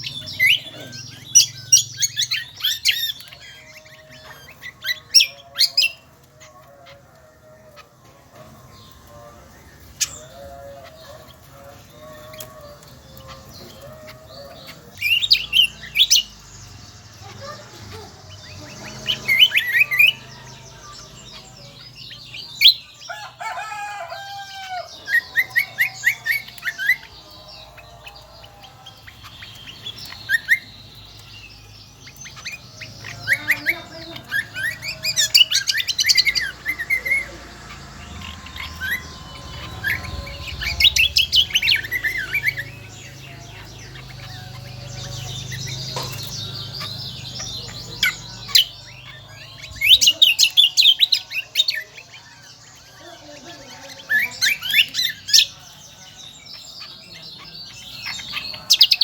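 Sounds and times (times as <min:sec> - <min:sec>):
bird singing high chirps: 0:00.0 - 0:59.0.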